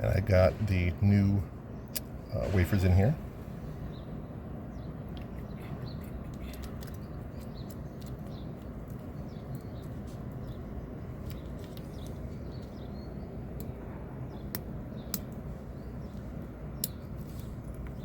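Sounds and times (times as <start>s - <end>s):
small birds chirping faintly: 0.0s - 18.0s
steady low rumble: 0.0s - 18.0s.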